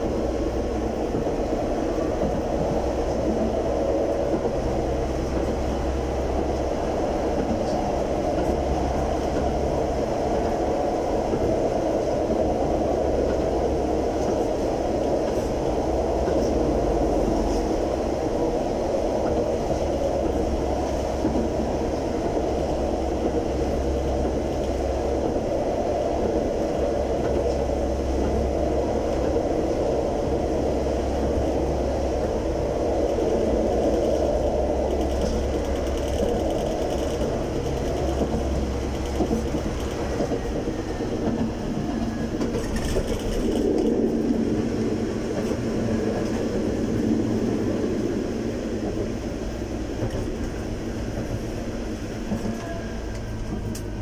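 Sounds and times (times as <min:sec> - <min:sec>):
tram wheels rumbling on rail: 0:00.0 - 0:54.0.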